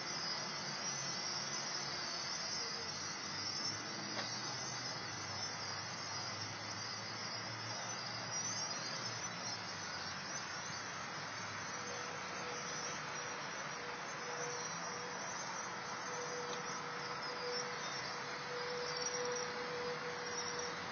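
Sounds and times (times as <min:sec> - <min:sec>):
flock of birds chirping: 0:00.0 - 0:20.9.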